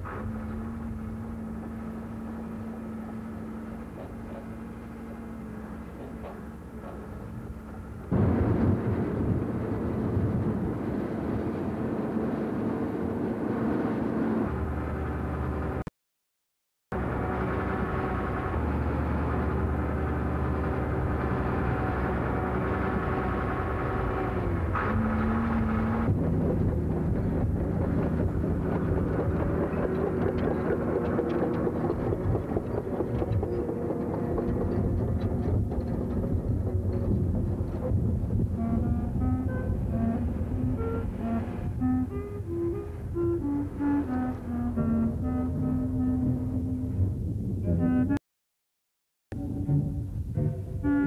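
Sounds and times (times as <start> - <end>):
heavy diesel engine running: 0.0 - 15.8, 16.9 - 48.2.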